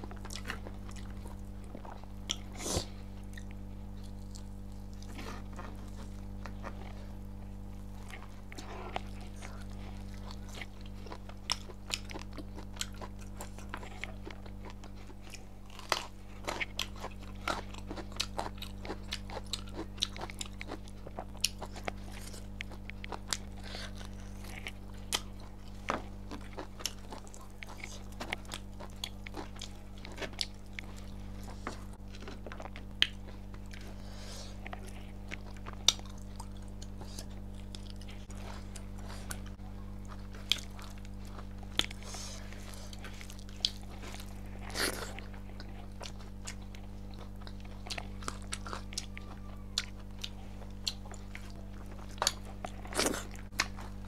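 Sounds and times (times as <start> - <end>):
chewing and crunching: 0.0 - 54.0
low hum: 0.0 - 54.0.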